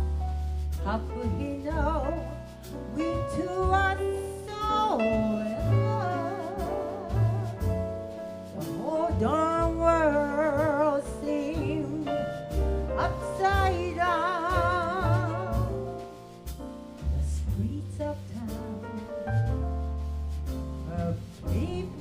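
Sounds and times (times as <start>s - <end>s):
low bass notes: 0.0s - 22.0s
small jazz band: 0.0s - 22.0s
woman singing jazz ballad: 0.7s - 16.1s, 17.0s - 19.5s, 20.8s - 22.0s.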